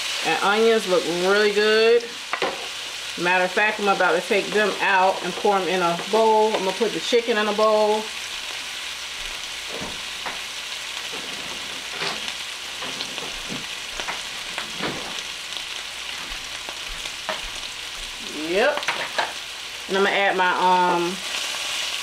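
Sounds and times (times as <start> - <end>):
food sizzling in frying pans: 0.0 - 22.0.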